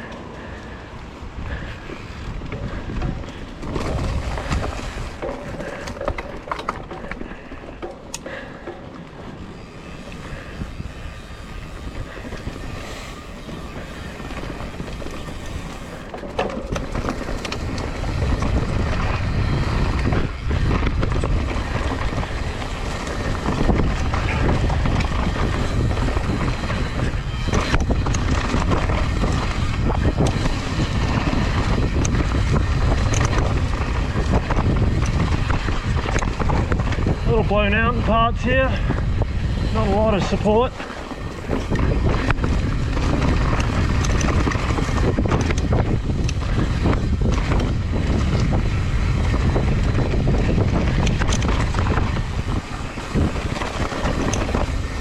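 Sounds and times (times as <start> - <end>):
bike knocking and rattling: 0.0 - 55.0
tyres rushing on dirt: 0.0 - 55.0
wind buffeting microphone: 0.0 - 55.0.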